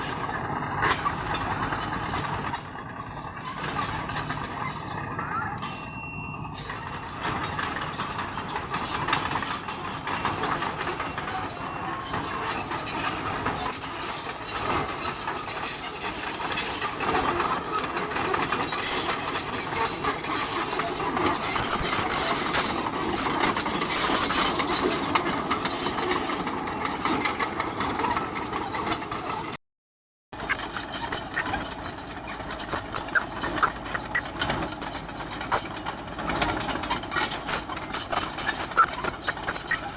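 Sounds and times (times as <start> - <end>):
bulldozer engine under load: 0.0 - 29.6, 30.4 - 39.9.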